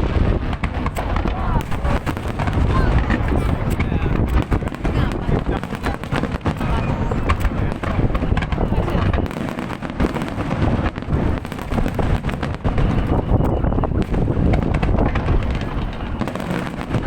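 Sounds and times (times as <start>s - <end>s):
fireworks booming and cracking: 0.0s - 17.0s.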